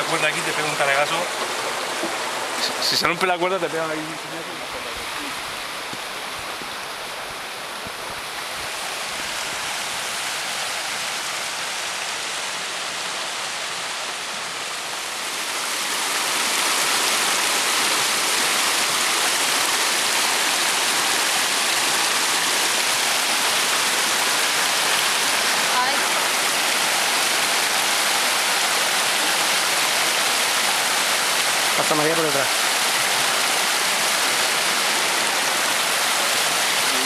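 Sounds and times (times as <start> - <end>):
river rushing over rocks: 0.0 - 37.0.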